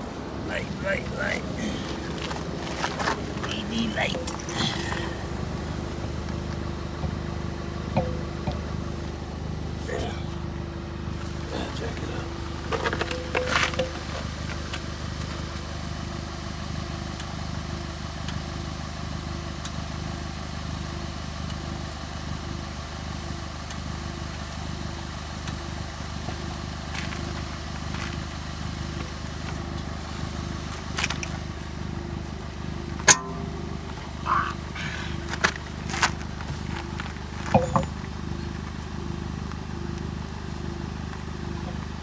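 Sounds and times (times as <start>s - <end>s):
vehicle engine idling: 0.0s - 42.0s.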